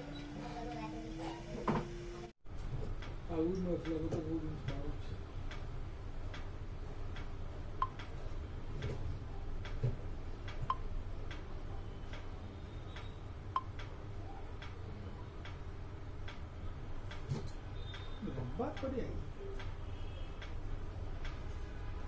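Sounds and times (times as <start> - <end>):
light ticks and clicks: 2.5 - 21.7.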